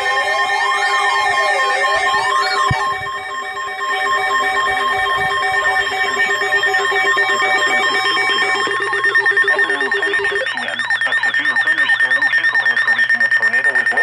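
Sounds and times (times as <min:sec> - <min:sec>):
electronic alert beeps: 0:00.0 - 0:14.0
fast chirping warble: 0:00.0 - 0:14.0.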